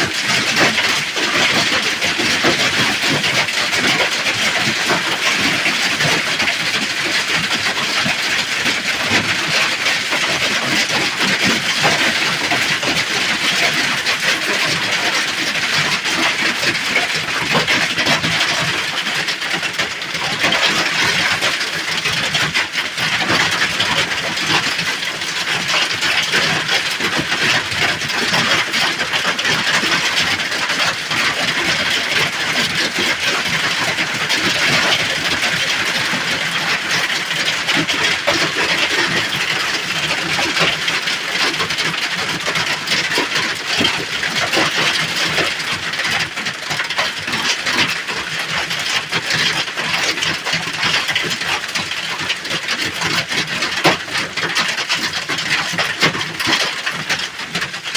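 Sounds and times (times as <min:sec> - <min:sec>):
hail clattering on a roof: 0:00.0 - 0:57.9.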